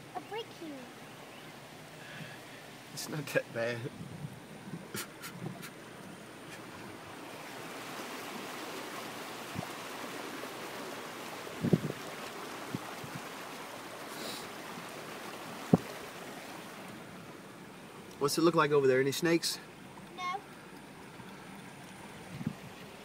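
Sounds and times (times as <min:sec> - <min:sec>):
floodwater swishing around vehicle: 0:00.0 - 0:23.0.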